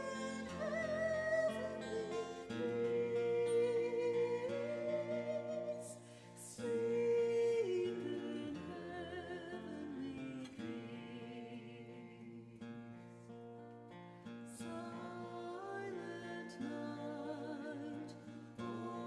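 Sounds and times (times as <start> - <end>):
guitar accompaniment: 0.0 - 19.0.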